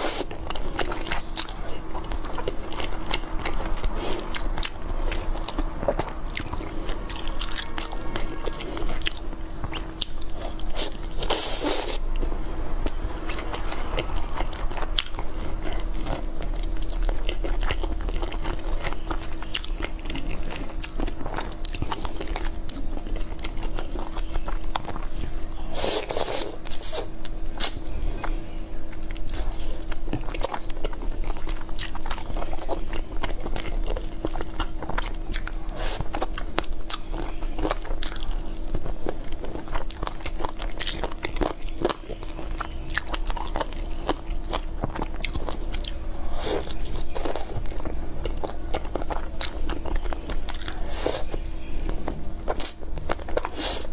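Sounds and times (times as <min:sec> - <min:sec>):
crunching and chewing bones: 0:00.0 - 0:53.9
faint steady hum: 0:00.0 - 0:53.9.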